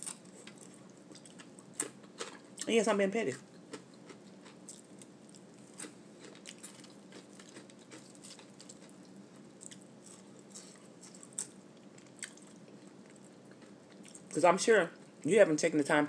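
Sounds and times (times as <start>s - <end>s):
person chewing food: 0.0s - 2.7s, 3.4s - 14.4s.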